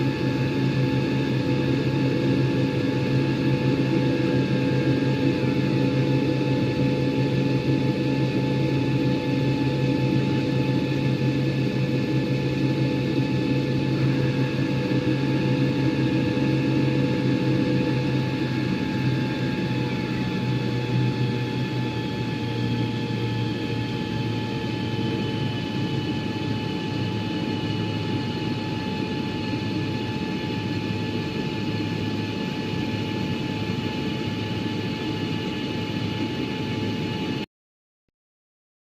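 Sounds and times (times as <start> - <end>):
jet engines rumbling: 0.0 - 37.4
high-pitched engine whine: 0.0 - 37.5.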